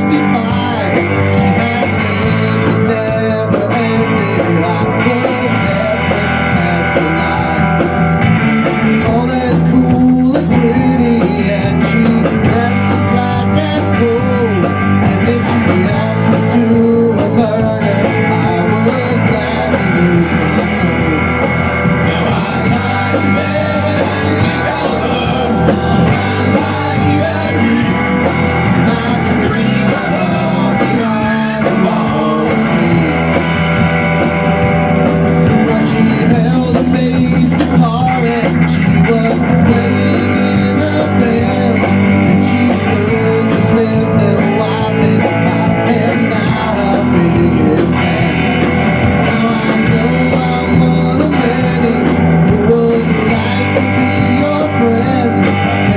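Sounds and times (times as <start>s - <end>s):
drum kit: 0.0s - 55.9s
electric bass: 0.0s - 55.9s
electric guitar: 0.0s - 55.9s.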